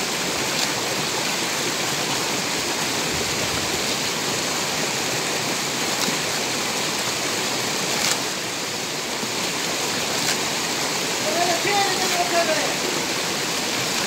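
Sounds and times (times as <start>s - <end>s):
running water in stream: 0.0s - 14.0s.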